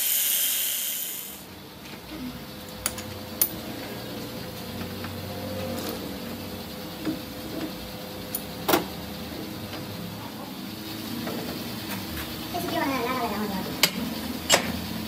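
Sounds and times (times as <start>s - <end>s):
workshop machine hum: 0.0s - 15.0s.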